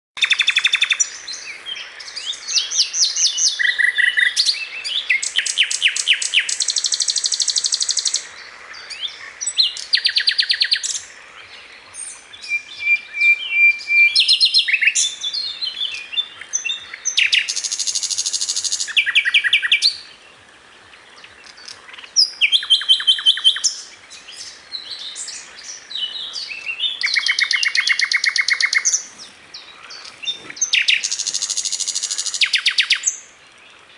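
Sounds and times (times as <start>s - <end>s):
bird chirps: 0.2s - 20.2s, 21.2s - 33.3s.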